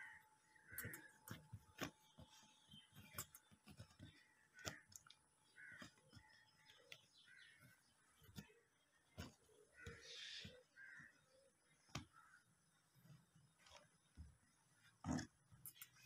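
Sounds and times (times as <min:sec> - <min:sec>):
faint bird calls: 0:00.0 - 0:13.9.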